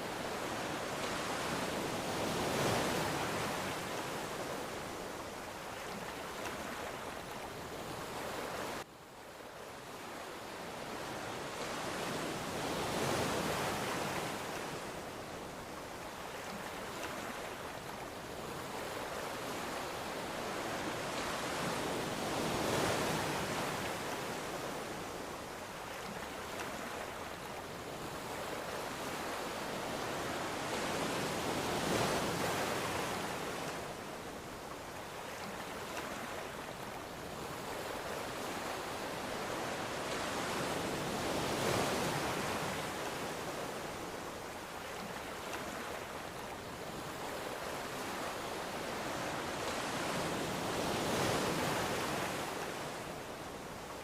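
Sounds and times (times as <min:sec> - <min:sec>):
ocean waves rolling in: 0:00.0 - 0:54.0.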